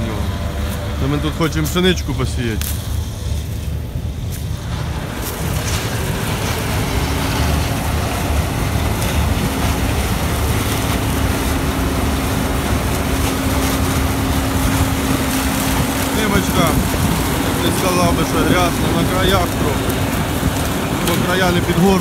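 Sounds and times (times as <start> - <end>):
combine harvester engine rumble: 0.0 - 22.0
steady hum: 0.0 - 22.0.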